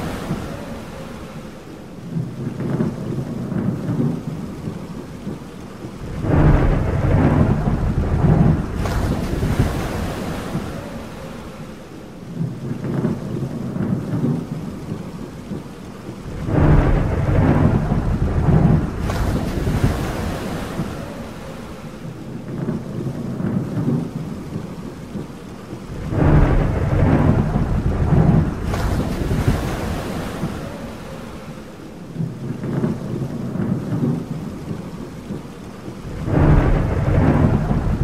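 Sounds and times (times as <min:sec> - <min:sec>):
thunder rolling: 0:00.0 - 0:11.5, 0:12.4 - 0:31.4, 0:32.2 - 0:35.0, 0:35.9 - 0:38.0
steady rain: 0:00.0 - 0:38.0.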